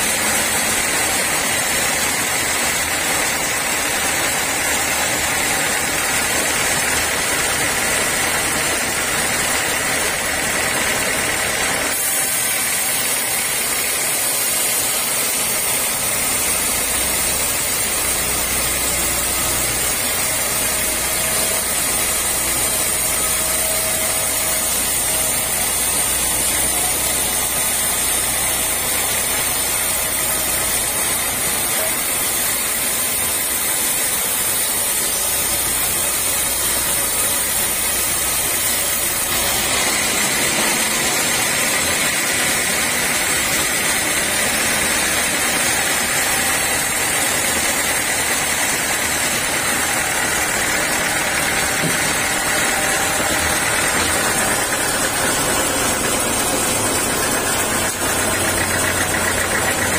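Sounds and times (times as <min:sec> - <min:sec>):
saw blade hissing through log: 0:11.7 - 0:59.9.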